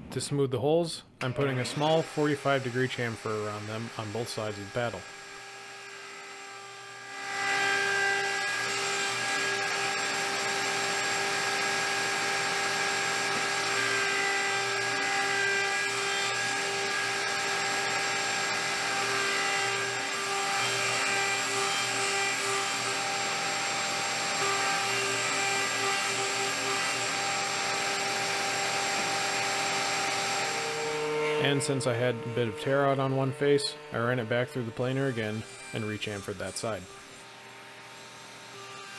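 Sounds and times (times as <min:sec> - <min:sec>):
router whining: 0:01.2 - 0:38.9.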